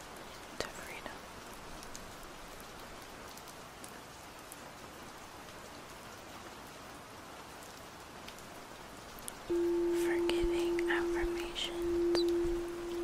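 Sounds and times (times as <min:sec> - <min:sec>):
steady soft rain: 0:00.0 - 0:13.0.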